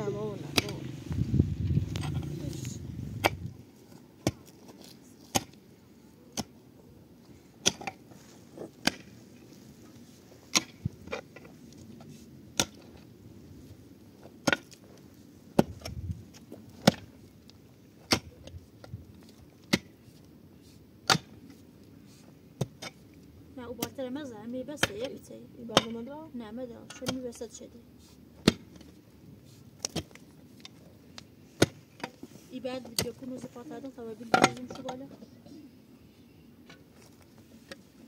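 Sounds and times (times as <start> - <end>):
faint background noise: 0.0 - 38.0.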